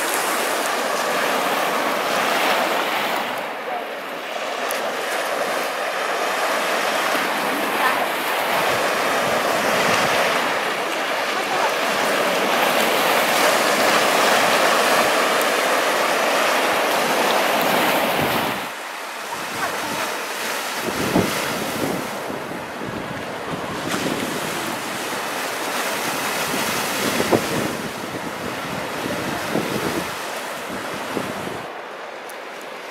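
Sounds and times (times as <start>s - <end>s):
waves breaking on beach: 0.0s - 32.9s.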